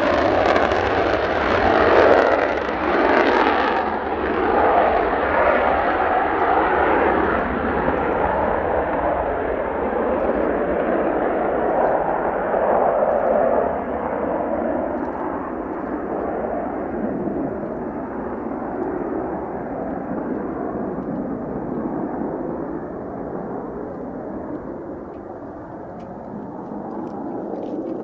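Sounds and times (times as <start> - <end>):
jet engine roaring: 0.0 - 28.0.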